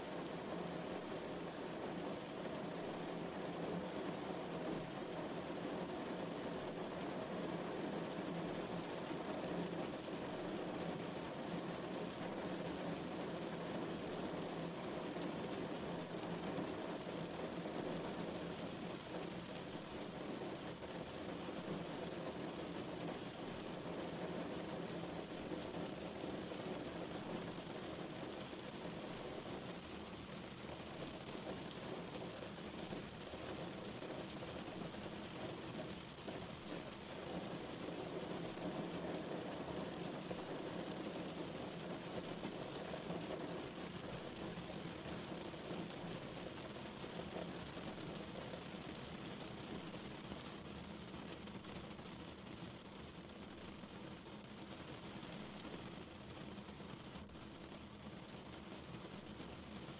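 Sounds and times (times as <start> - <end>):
heavy rain on a car: 0.0 - 59.9.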